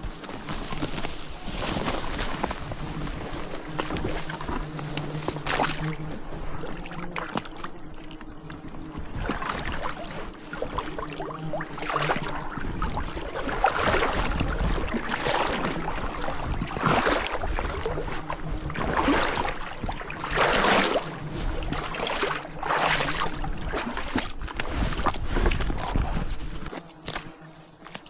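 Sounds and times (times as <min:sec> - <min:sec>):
water swishing in surges: 0:00.0 - 0:26.7.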